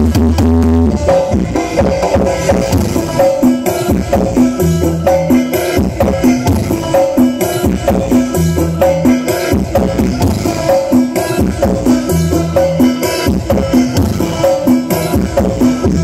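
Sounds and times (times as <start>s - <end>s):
heavy bass line: 0.0s - 16.0s
loud dance music: 0.0s - 16.0s.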